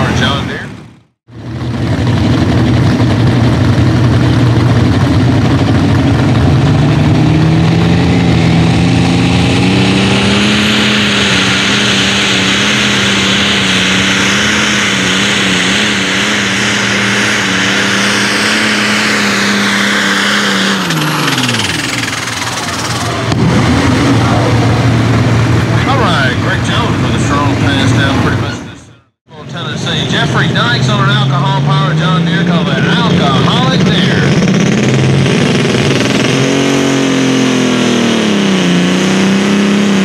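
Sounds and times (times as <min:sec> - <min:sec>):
tractor engine under load: 0:00.0 - 0:40.0.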